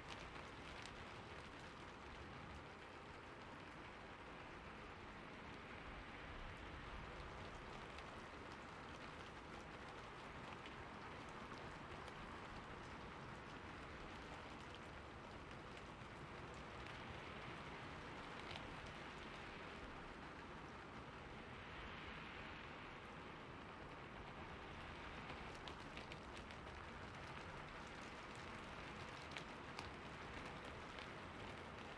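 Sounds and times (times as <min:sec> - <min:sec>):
raindrop ticks: 0:00.0 - 0:31.9
steady rain hiss: 0:00.0 - 0:31.9.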